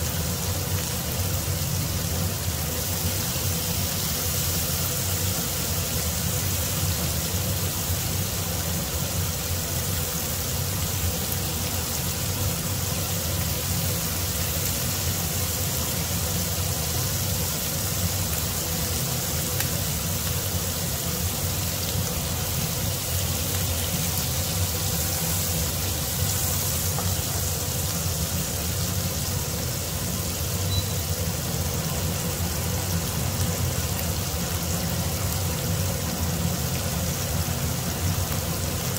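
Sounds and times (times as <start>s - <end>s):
beef sizzling in a frying pan: 0.0s - 38.9s.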